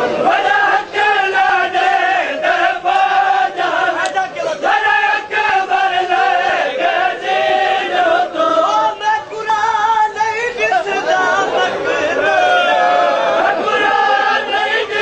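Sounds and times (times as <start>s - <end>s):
men chanting: 0.0s - 15.0s.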